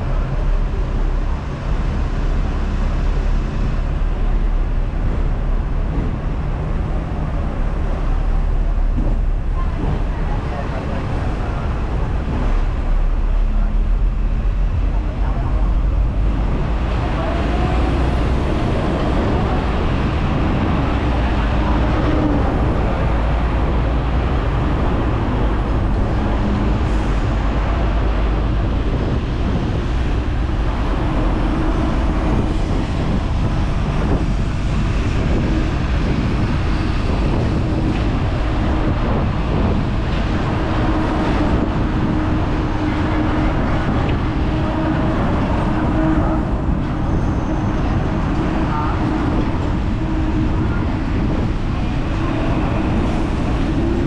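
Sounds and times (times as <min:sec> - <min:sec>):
road traffic: 0:00.0 - 0:54.0
tram wheels rumbling on rails: 0:00.0 - 0:54.0.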